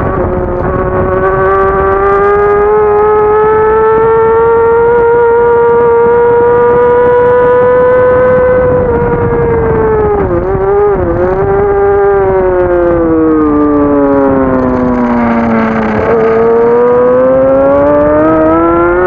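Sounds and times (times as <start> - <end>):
racing motorcycle engine revving: 0.0 - 19.0.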